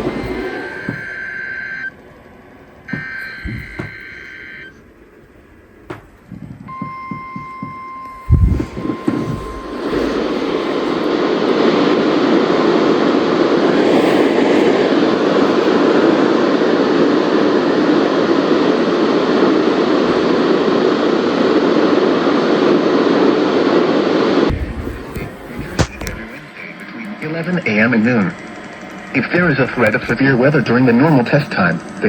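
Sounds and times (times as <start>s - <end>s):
radio static hiss: 0.0s - 2.0s, 2.8s - 6.7s, 8.0s - 32.0s.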